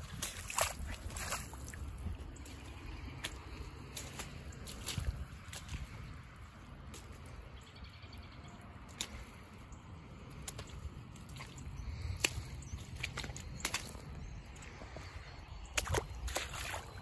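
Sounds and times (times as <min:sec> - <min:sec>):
water trickling faintly: 0:00.0 - 0:07.4, 0:08.9 - 0:17.0
mud squelching clicks: 0:00.0 - 0:07.6, 0:08.6 - 0:17.0.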